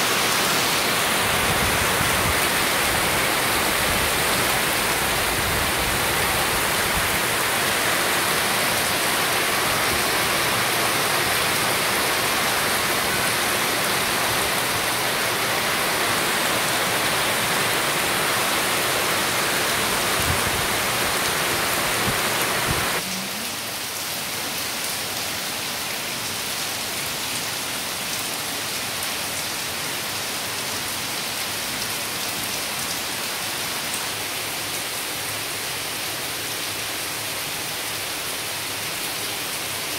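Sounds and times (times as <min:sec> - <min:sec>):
heavy rain on paving and roofs: 0:00.0 - 0:39.9.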